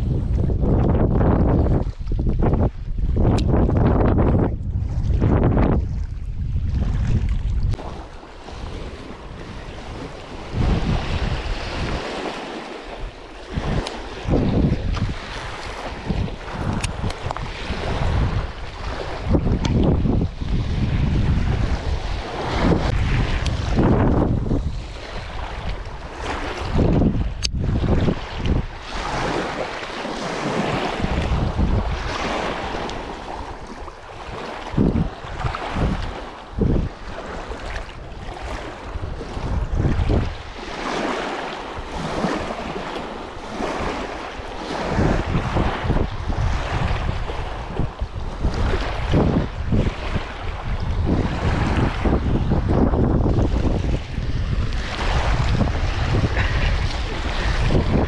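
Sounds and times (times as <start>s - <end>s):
gusty wind on microphone: 0.0s - 58.0s
small waves lapping shore: 4.4s - 58.0s.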